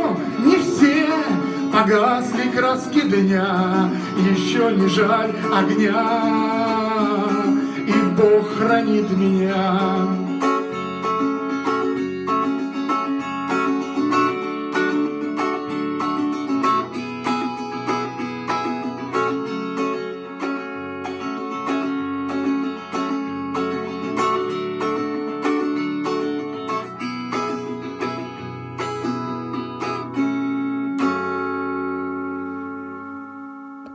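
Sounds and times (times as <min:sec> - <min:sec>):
guitar picking and strumming: 0:00.0 - 0:33.9.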